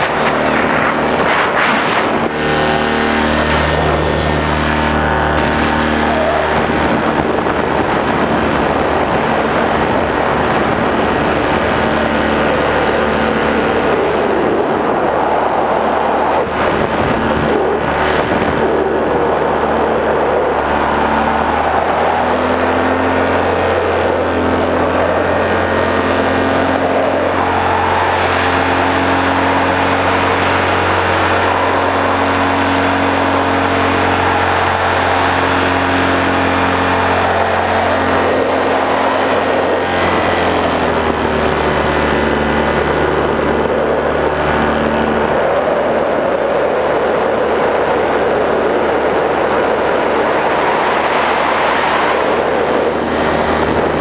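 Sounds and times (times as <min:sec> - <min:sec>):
motor running steadily: 0:00.0 - 0:54.0
noisy rushing: 0:00.0 - 0:54.0.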